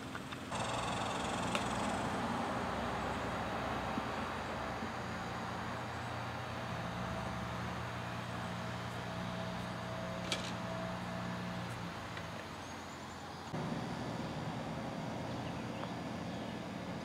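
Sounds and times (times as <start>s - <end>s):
low engine hum: 0.0s - 17.0s
outdoor background noise: 0.0s - 17.0s.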